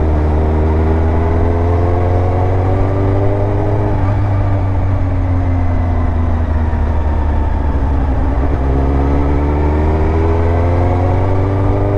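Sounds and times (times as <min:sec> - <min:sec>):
motorcycle engine accelerating: 0:00.0 - 0:11.9.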